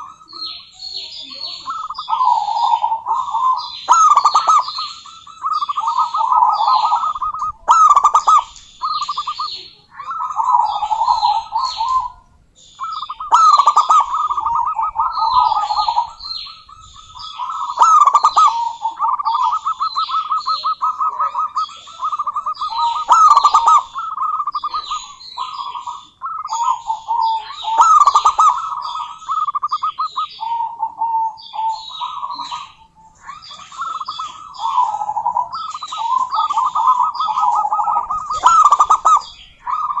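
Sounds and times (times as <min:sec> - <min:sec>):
dove rattling coo: 0:01.6 - 0:12.2, 0:12.8 - 0:29.7, 0:30.4 - 0:40.0.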